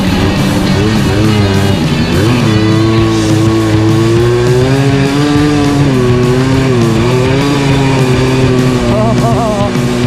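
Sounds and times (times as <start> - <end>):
guitar music: 0.0 - 10.0
moped engine running: 0.0 - 10.0.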